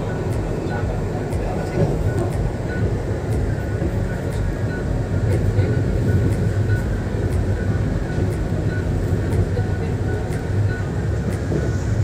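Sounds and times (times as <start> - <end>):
rumble of train wheels on track: 0.0 - 12.0.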